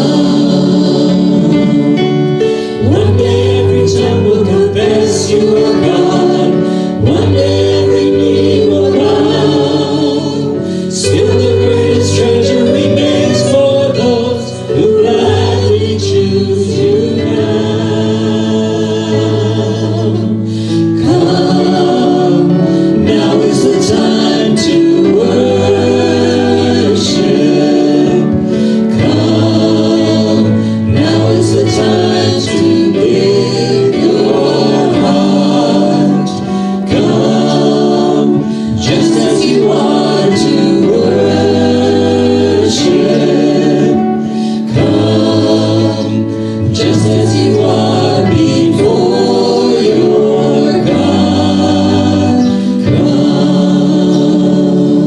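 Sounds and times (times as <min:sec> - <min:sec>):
small band playing: 0:00.0 - 0:55.0
voices singing worship song: 0:00.0 - 0:55.0.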